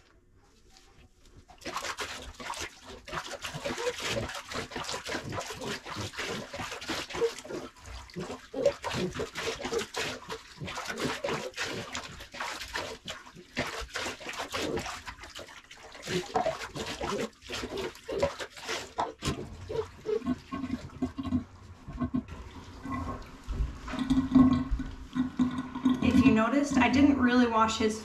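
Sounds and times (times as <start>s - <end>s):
water pouring and splashing: 1.4s - 27.7s.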